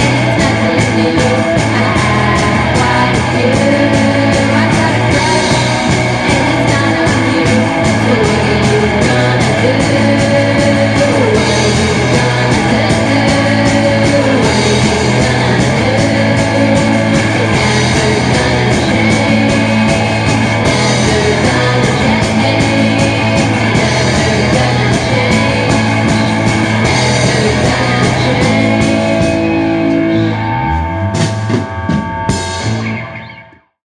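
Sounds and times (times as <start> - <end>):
rock band music with guitar: 0.0 - 33.7.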